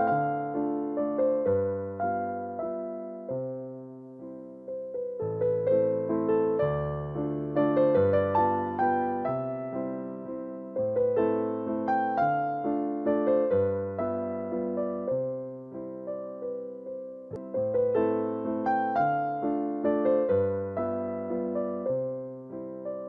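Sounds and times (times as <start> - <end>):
soft electric piano melody: 0.0 - 23.0.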